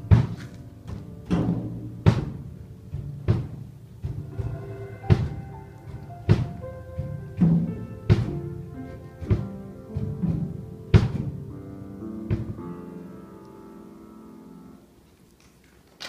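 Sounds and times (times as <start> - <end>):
drum kit hits: 0.0 - 13.0
grand piano notes and chords: 0.0 - 15.9.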